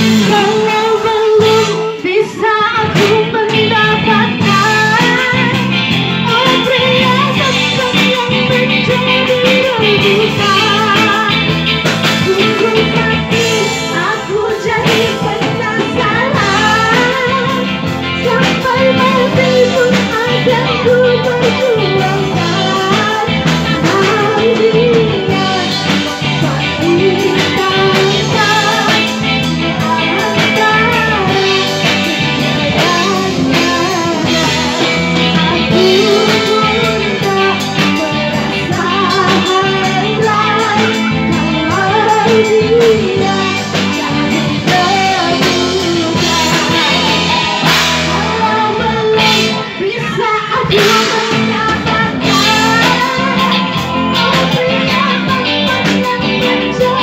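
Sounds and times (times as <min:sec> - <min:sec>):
drum kit: 0:00.0 - 0:57.0
guitar: 0:00.0 - 0:57.0
person singing: 0:00.0 - 0:57.0.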